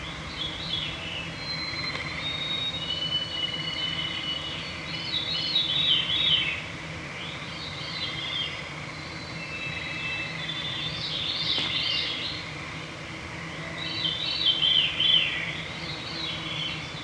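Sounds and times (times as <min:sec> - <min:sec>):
songbirds singing: 0:00.0 - 0:12.5, 0:13.8 - 0:17.0.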